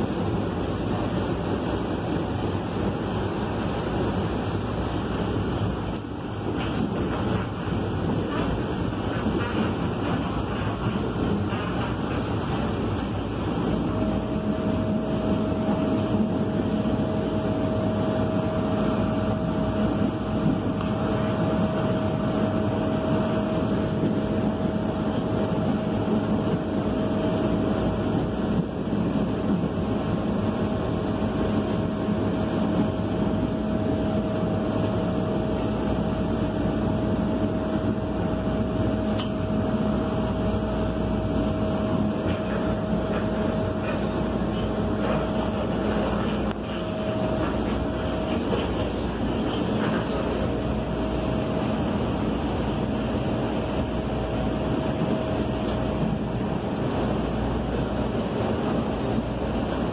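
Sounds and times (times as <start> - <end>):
light-rail car rumbling in motion: 0.0 - 59.9.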